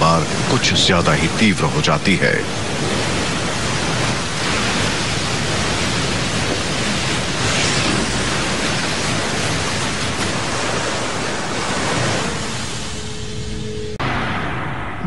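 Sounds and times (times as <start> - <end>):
storm surf crashing: 0.0 - 15.0.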